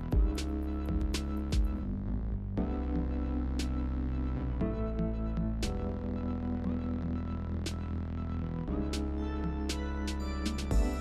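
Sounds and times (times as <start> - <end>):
sustained chords music: 0.0 - 11.0.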